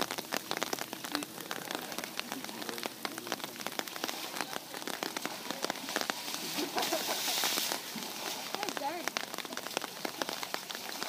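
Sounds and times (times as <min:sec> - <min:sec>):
dense patter of sharp ticks: 0:00.0 - 0:07.0, 0:08.6 - 0:11.0.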